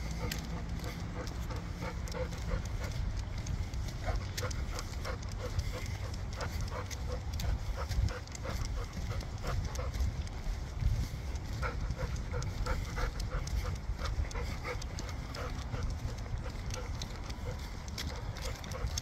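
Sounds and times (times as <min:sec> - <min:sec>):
dog panting: 0:00.0 - 0:19.0
footsteps on concrete: 0:00.0 - 0:19.0.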